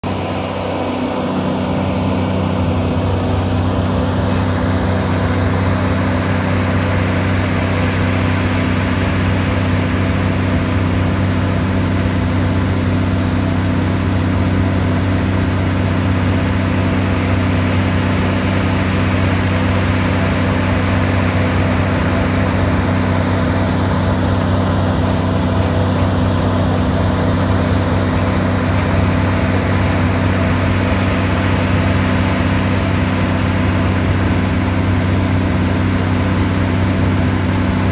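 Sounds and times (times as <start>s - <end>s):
jaw crusher machine drone: 0.0s - 37.9s.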